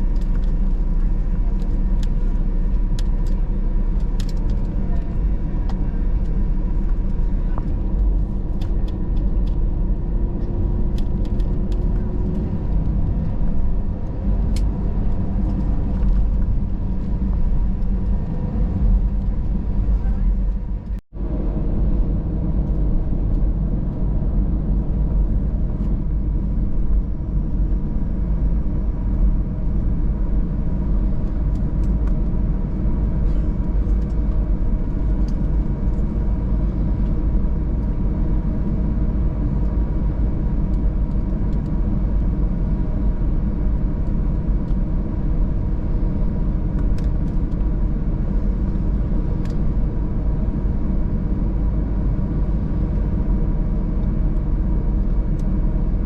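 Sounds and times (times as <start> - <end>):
airplane cabin engine rumble: 0.0 - 56.0
faint engine whine: 0.0 - 56.0.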